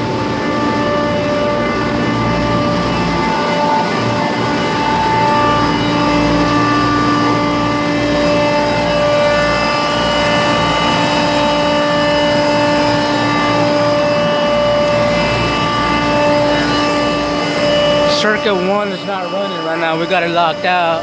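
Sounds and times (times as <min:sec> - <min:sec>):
machinery noise: 0:00.0 - 0:21.0
steady whining tones: 0:00.0 - 0:21.0.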